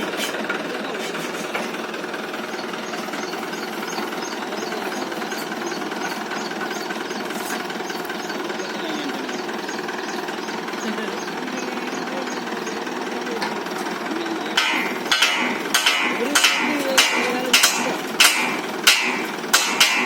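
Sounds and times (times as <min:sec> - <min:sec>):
tractor diesel engine clattering: 0:00.0 - 0:20.0.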